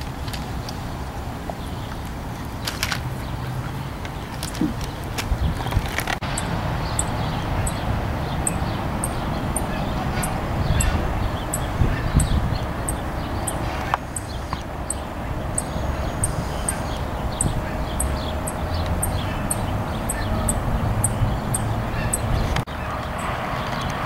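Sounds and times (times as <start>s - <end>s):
wind rumble on microphone: 3.3s - 24.0s.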